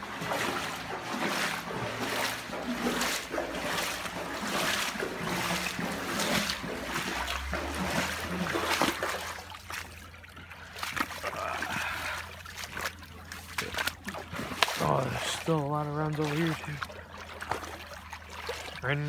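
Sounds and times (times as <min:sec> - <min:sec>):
footsteps splashing through water: 0:00.0 - 0:19.0
water trickling: 0:00.0 - 0:19.0.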